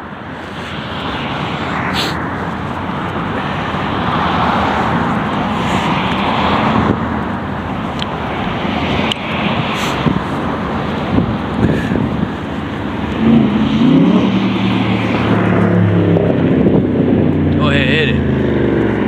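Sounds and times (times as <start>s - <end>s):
car passing: 0.0s - 19.0s.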